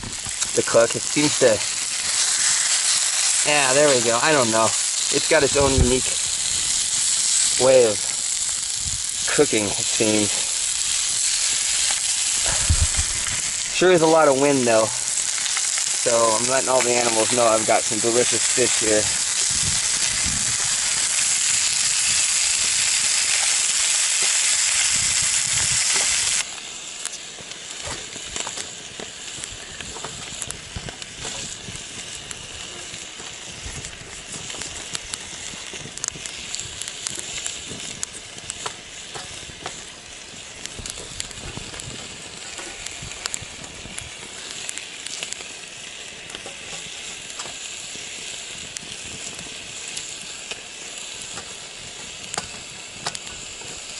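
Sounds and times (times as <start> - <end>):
fish sizzling in a pan: 0.0 - 53.9
wood fire crackling: 0.0 - 53.9.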